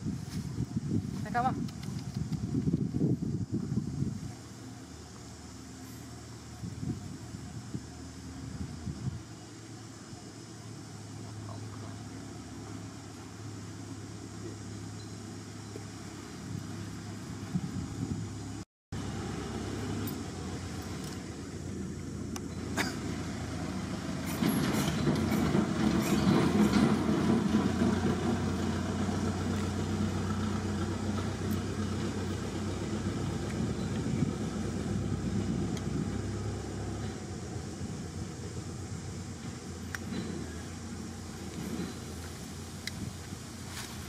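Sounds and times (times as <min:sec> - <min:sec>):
low outdoor rumble: 0:00.0 - 0:44.0.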